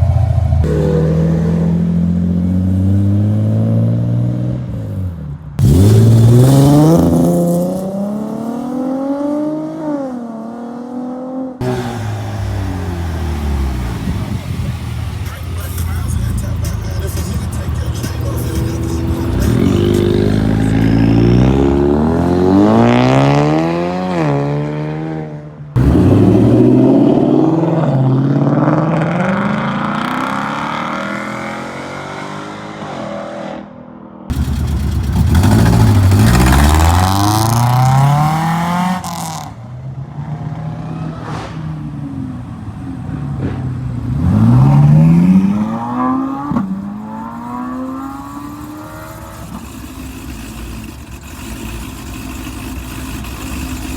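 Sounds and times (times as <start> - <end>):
car engines accelerating hard: 0.0 - 53.9.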